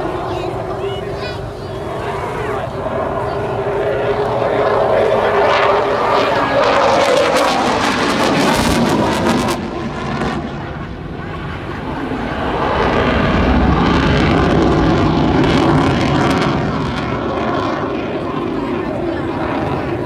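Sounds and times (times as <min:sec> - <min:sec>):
aircraft engine rumble: 0:00.0 - 0:20.0
wind buffeting microphone: 0:00.0 - 0:20.0.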